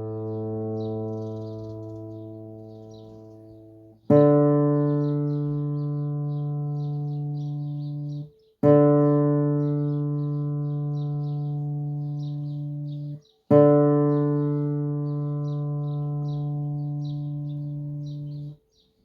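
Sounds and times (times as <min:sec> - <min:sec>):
acoustic guitar string plucked: 0:00.0 - 0:18.6.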